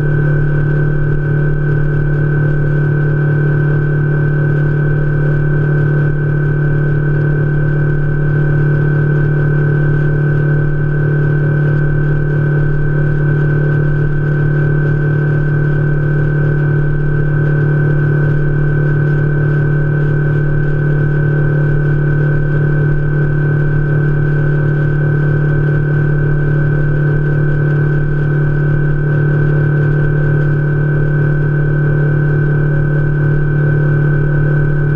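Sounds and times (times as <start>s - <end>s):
high whine: 0.0s - 34.9s
outboard motor drone: 0.0s - 34.9s.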